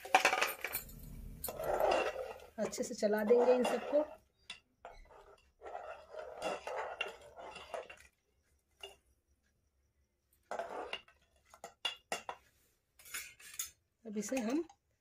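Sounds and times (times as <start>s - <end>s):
metal spatula stirring in pot: 0.0s - 9.6s, 10.2s - 15.0s.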